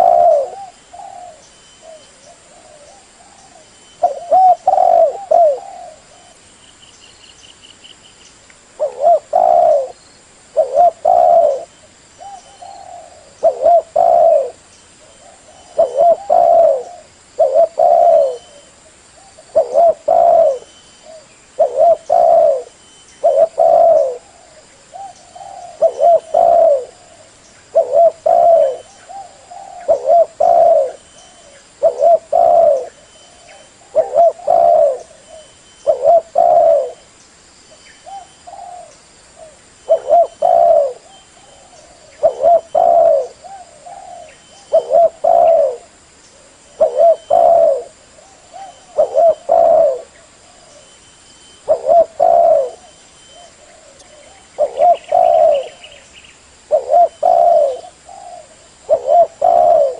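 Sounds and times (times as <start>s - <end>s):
dove cooing: 0.0s - 6.4s, 8.8s - 37.1s, 38.0s - 59.9s.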